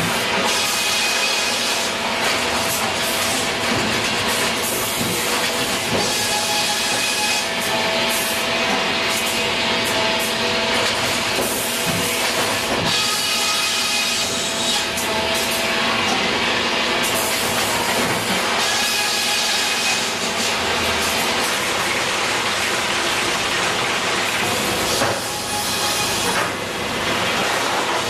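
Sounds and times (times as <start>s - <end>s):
sawbench machinery drone: 0.0s - 28.0s.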